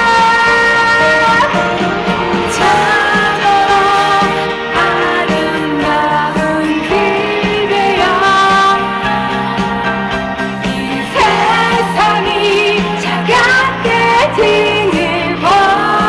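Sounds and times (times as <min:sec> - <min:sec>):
live pop-rock band: 0:00.0 - 0:16.0
woman singing: 0:00.0 - 0:16.0.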